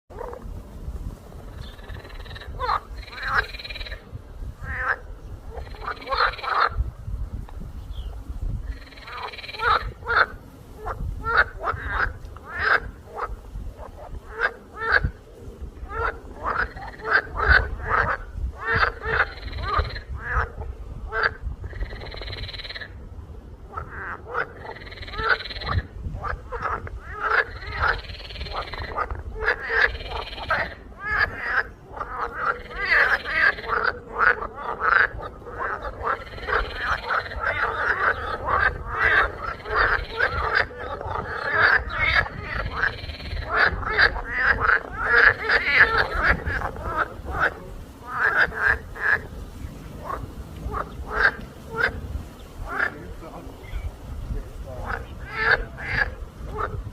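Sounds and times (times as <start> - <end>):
frogs croaking in chorus: 1.4 - 6.9, 8.0 - 56.9.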